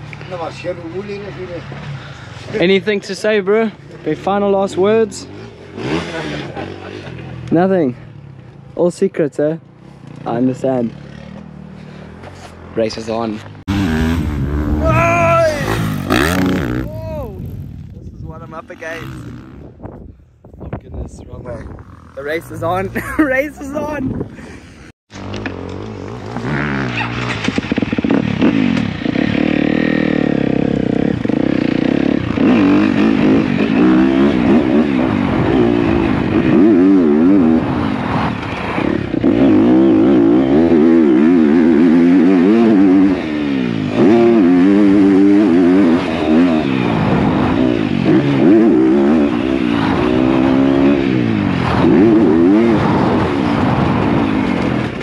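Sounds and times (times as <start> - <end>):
motocross bike engine revving: 0.3 - 19.8, 24.8 - 55.0.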